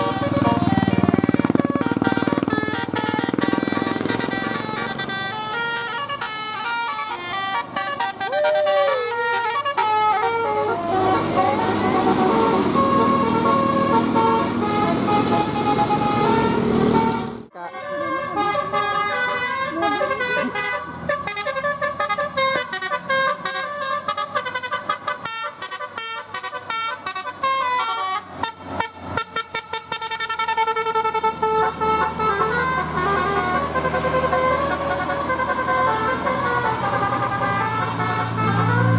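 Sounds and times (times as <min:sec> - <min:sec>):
bus horns playing melodic tunes: 0:00.0 - 0:38.9
vehicle noise: 0:00.0 - 0:38.9.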